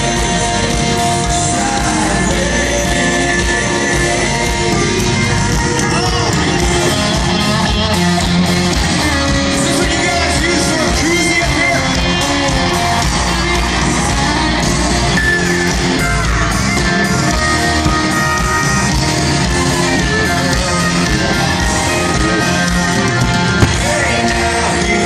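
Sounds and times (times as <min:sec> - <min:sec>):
live country rock band: 0:00.0 - 0:25.0.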